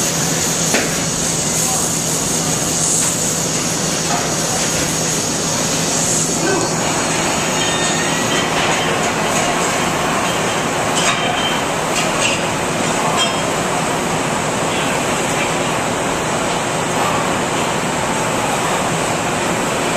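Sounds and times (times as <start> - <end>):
welding arc crackling hiss: 0.0 - 19.9.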